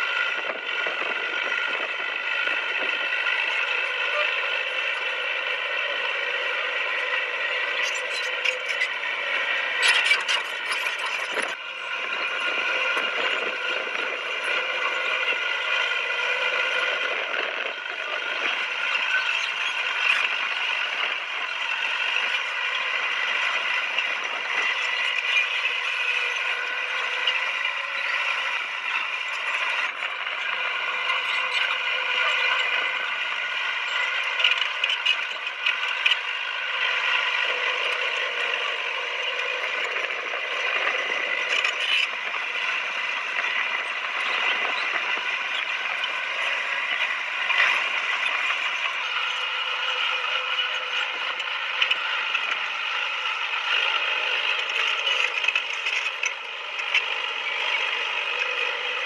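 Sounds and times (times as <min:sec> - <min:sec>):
bulldozer engine: 0:00.0 - 0:59.0.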